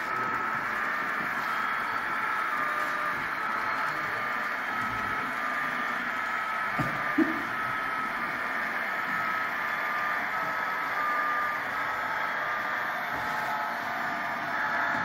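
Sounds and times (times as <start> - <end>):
model train running: 0.0 - 15.0.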